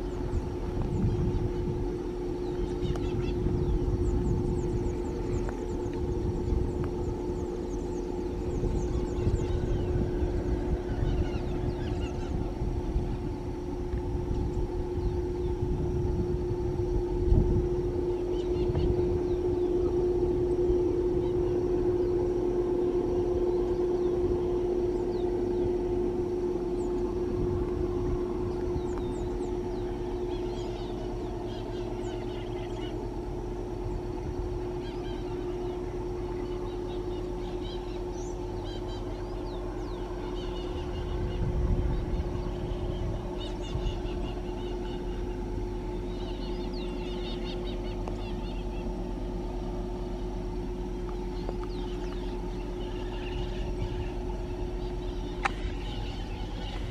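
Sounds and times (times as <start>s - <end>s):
birds chirping: 0.0s - 56.9s
locomotives droning under load: 0.0s - 56.9s.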